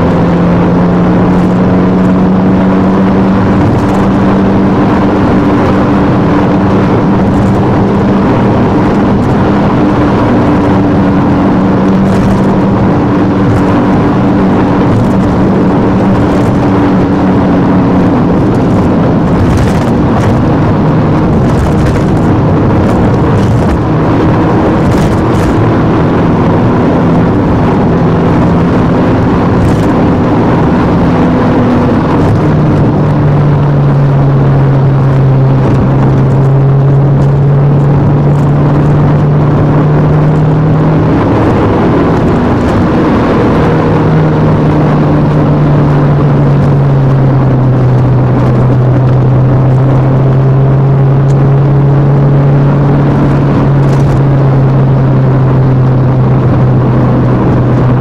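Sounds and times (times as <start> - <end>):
car engine at high revs: 0.0 - 58.0
tyre and road noise: 0.0 - 58.0.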